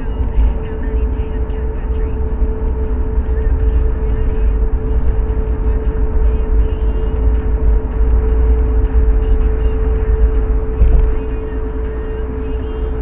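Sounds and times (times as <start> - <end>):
car interior road rumble: 0.0 - 13.0
constant hum: 0.0 - 13.0.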